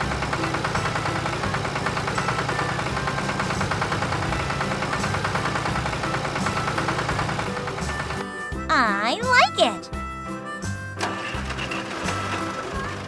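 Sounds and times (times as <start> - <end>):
cartoon heavy vehicle engine chugging: 0.0 - 13.0.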